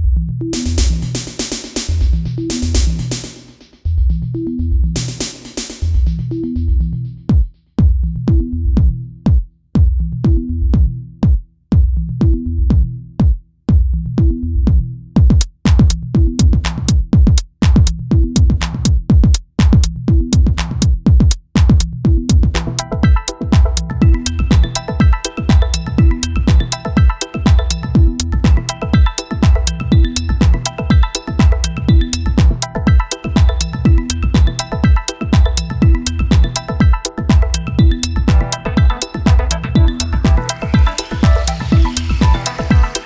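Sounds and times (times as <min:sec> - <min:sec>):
electronic music with drum beat: 0:00.5 - 0:43.0.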